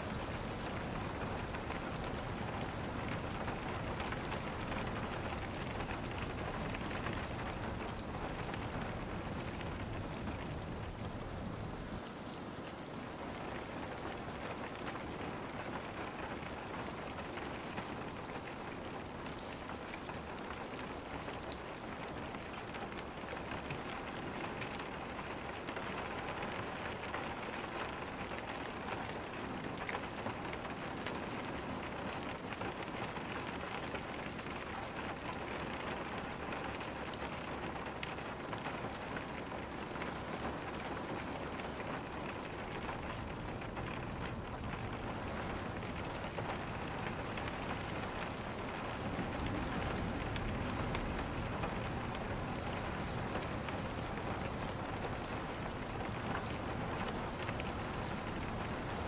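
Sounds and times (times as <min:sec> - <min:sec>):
rain hissing: 0:00.0 - 0:59.0
raindrops tapping: 0:00.0 - 0:59.0.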